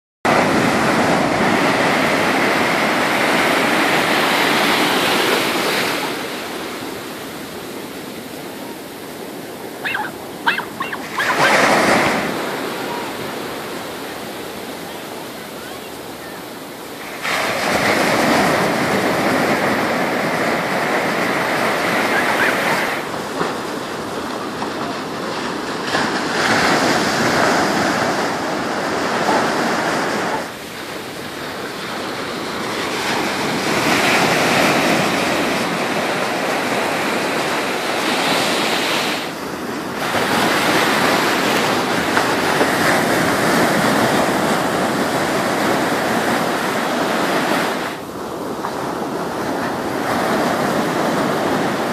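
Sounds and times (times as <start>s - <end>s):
ocean surf breaking: 0.3s - 51.9s.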